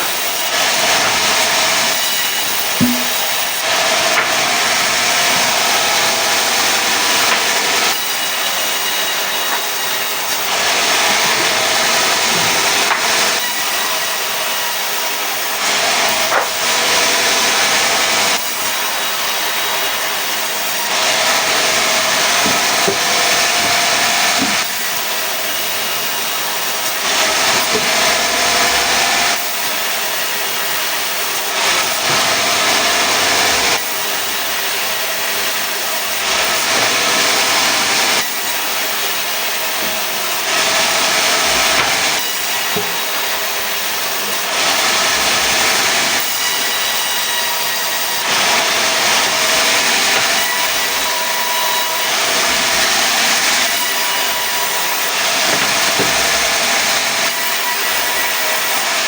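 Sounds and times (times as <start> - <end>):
saw cutting logs: 0.0 - 59.0.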